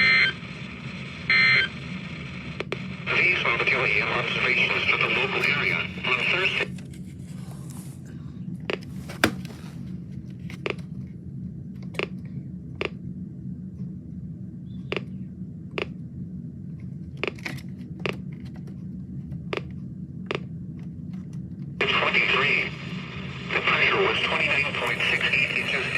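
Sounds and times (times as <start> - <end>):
radio receiver hum: 0.0 - 25.9.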